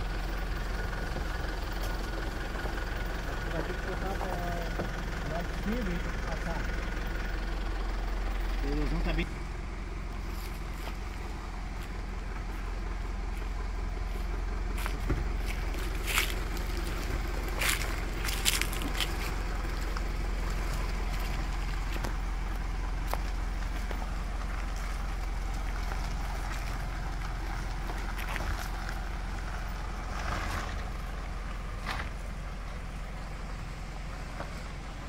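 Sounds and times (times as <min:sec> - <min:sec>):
low engine drone: 0:00.0 - 0:35.0
tyres crunching over dirt and stones: 0:00.4 - 0:35.0.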